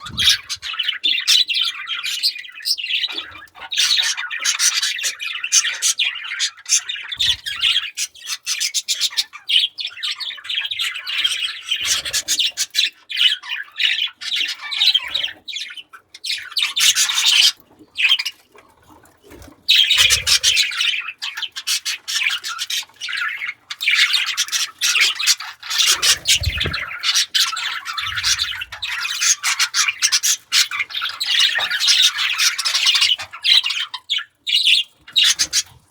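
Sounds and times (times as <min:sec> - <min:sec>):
budgerigars chattering and squawking: 0:00.0 - 0:18.5, 0:19.3 - 0:35.9.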